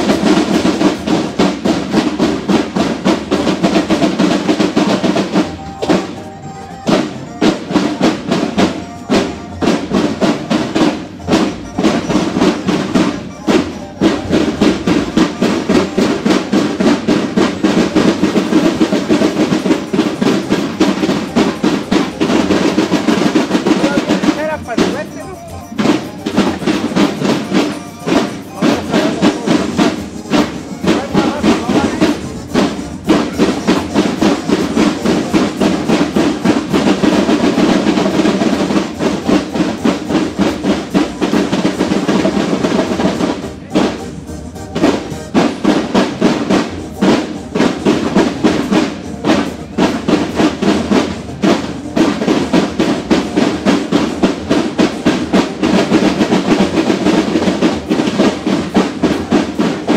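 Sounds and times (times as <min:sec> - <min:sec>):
marching drums parade beat: 0:00.0 - 0:59.9.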